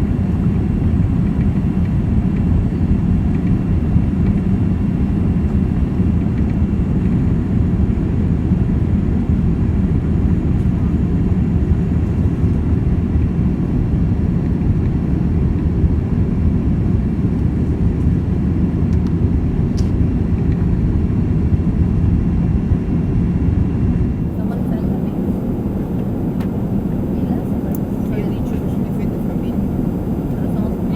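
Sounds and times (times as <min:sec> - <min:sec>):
airplane cabin rumble: 0:00.0 - 0:30.9.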